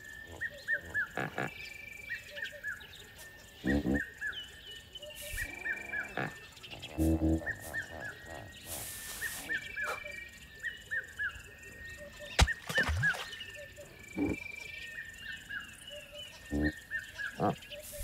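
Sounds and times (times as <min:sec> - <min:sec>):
bird chirping: 0:00.0 - 0:18.0
insects buzzing: 0:00.0 - 0:18.0.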